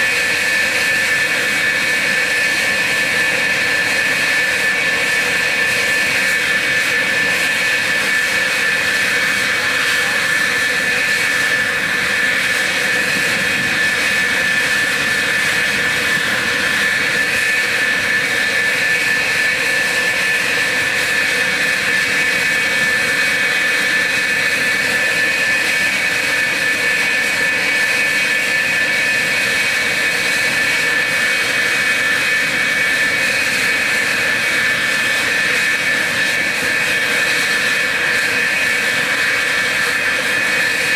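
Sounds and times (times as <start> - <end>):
jet engines idling: 0.0 - 40.9.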